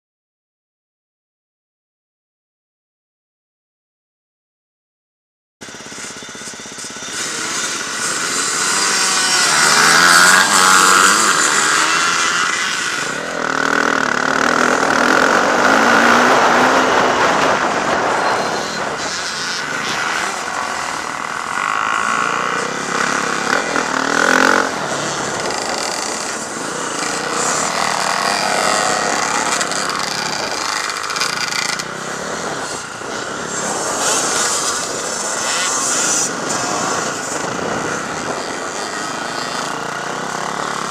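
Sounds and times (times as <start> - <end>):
motocross motorcycles revving: 5.6 - 40.9.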